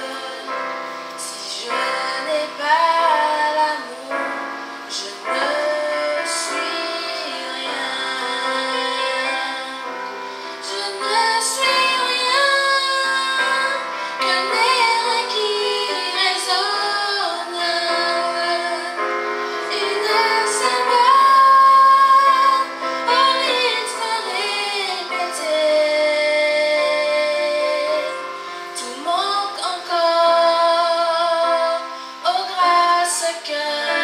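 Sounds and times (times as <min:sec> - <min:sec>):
keyboard: 0:00.0 - 0:34.0
woman singing into microphone: 0:00.0 - 0:34.0.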